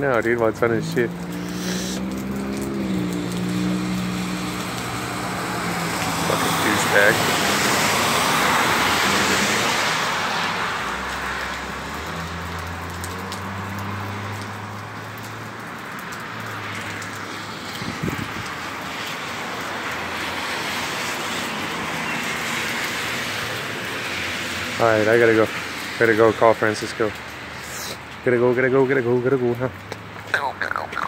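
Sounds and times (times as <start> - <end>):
tyres hissing on wet road: 0.8 - 29.7.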